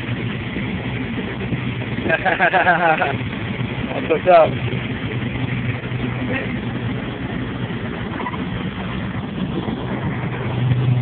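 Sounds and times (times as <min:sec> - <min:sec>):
boat engines droning: 0:00.0 - 0:11.0
dense rushing noise: 0:00.0 - 0:11.0.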